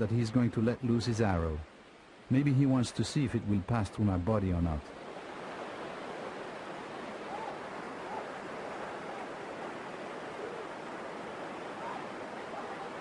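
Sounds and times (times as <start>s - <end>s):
roar of river rapids: 0.0s - 13.0s.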